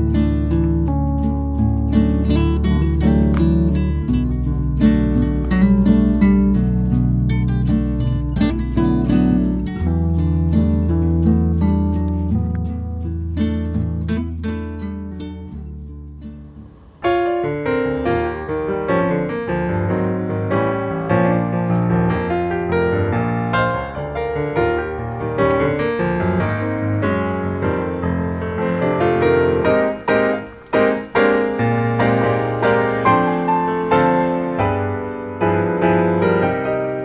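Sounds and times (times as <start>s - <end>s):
guitar piece: 0.0s - 37.0s
piano piece: 0.0s - 37.0s.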